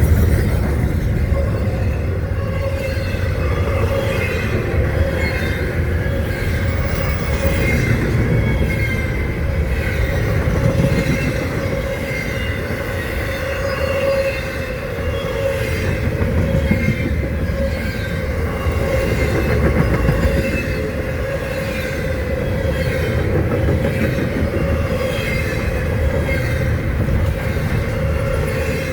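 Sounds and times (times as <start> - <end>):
train wheels rumbling on rail: 0.0 - 28.9
wheels squealing against rails: 0.0 - 28.9.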